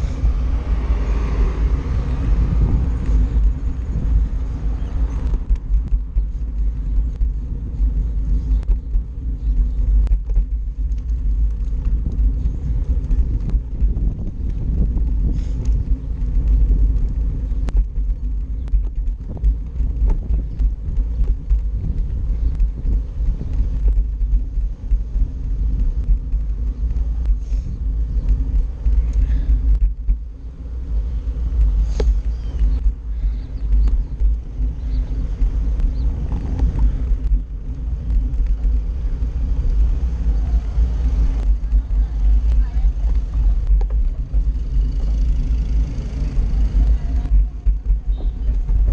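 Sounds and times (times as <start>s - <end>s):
passing car traffic: 0.0s - 20.0s, 20.6s - 48.9s
wheels rolling over pavement: 0.0s - 48.9s
wind buffeting microphone: 0.0s - 48.9s.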